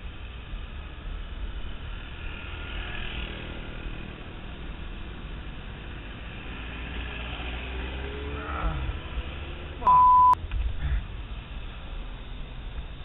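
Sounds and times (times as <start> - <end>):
cars and motorcycles passing: 0.0 - 13.0.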